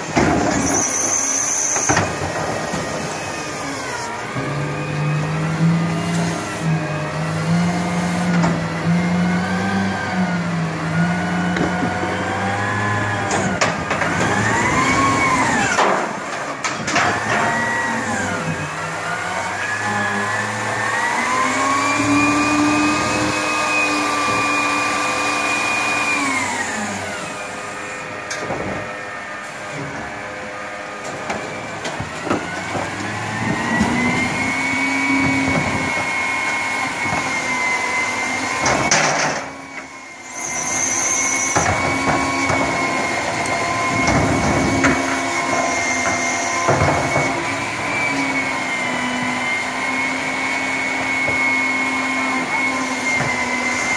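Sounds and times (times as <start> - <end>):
hydraulic pump whine: 0.0 - 53.9
truck engine revving: 0.0 - 53.9.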